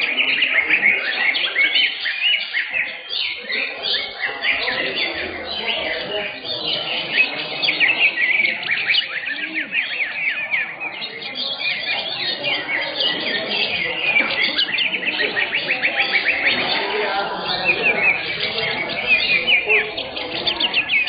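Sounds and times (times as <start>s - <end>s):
caged birds singing: 0.0s - 21.0s
murmur of people: 0.0s - 21.0s.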